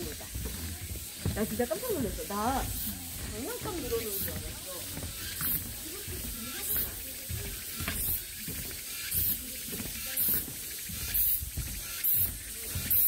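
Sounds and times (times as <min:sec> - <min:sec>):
footsteps with scuffs: 0:00.0 - 0:13.0
outdoor hiss: 0:00.0 - 0:13.0.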